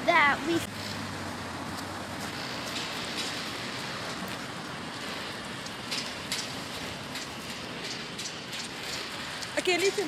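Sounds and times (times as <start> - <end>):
city street ambience hiss: 0.0 - 10.0.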